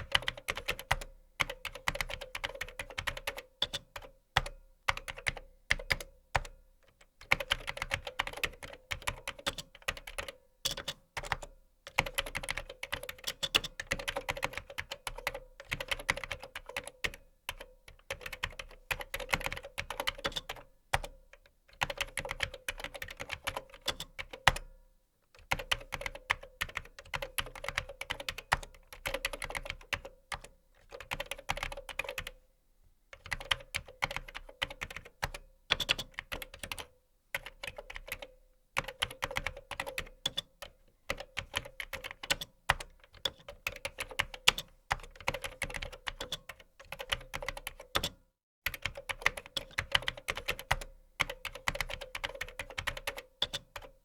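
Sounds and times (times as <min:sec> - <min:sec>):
computer keyboard typing: 0:00.0 - 0:06.5, 0:07.2 - 0:21.2, 0:21.8 - 0:24.7, 0:25.4 - 0:32.4, 0:33.2 - 0:54.0.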